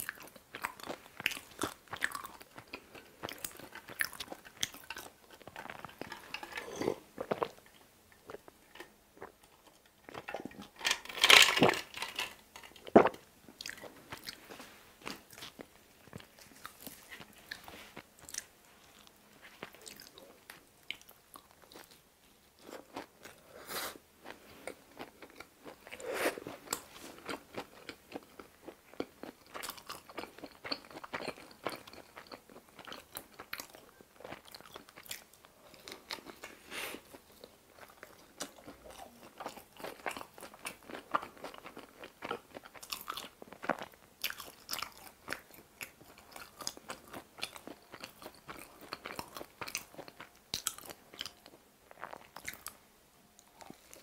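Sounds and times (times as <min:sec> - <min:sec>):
person chewing crunchy food: 0:00.0 - 0:52.8, 0:53.4 - 0:54.0.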